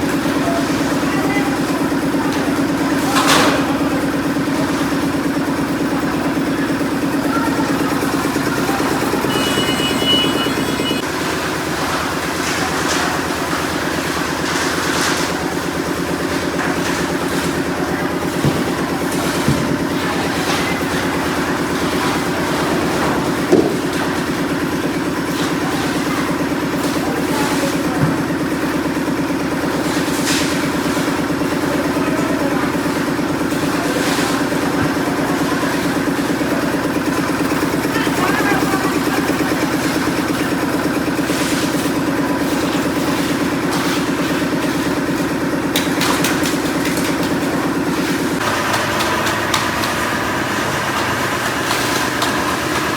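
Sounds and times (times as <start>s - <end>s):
machine engine running: 0.0s - 52.9s.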